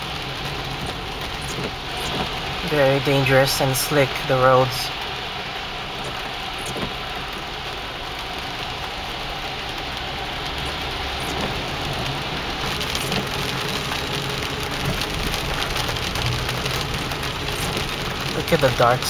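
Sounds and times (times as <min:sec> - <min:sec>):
heavy rain on car windshield: 0:00.0 - 0:19.0
tyres hissing on wet road: 0:00.0 - 0:19.0.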